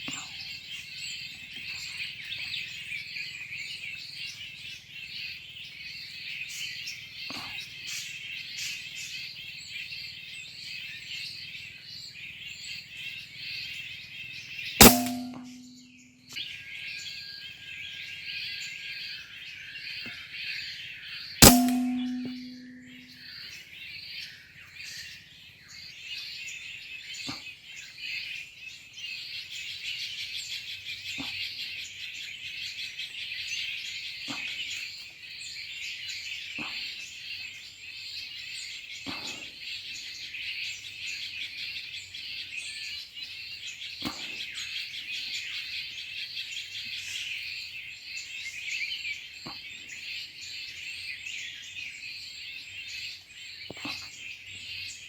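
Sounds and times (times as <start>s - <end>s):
small birds chirping chorus: 0.0s - 55.0s.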